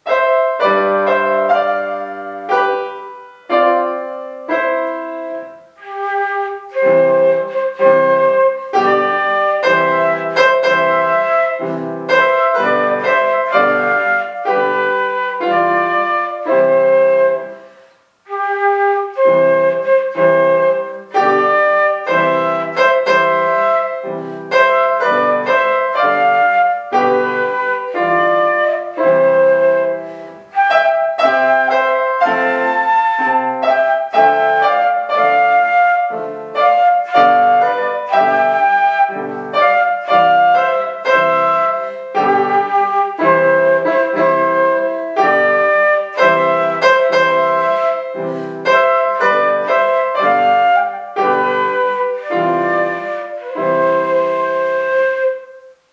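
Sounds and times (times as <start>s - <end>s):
flute: 0.0s - 55.9s
piano: 0.0s - 55.9s.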